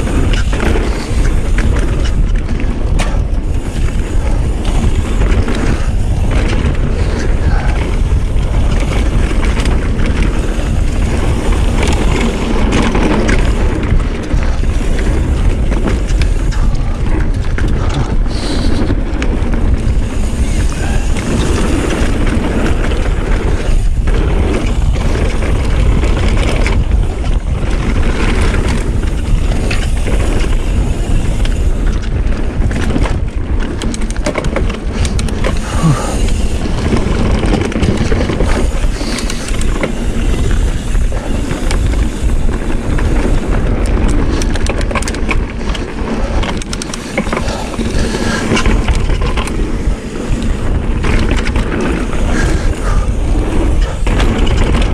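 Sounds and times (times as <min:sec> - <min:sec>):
bike rattling and clicking: 0:00.0 - 0:54.9
tyres rolling over dirt: 0:00.0 - 0:54.9
wind buffeting microphone: 0:00.0 - 0:54.9.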